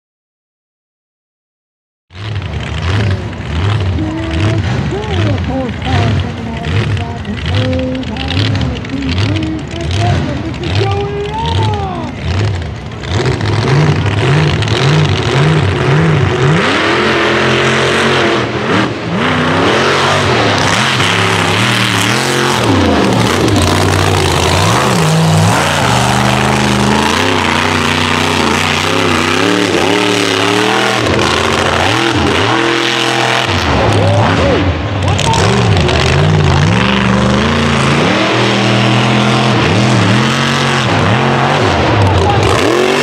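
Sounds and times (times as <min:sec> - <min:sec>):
truck engine revving: 0:02.1 - 0:43.0.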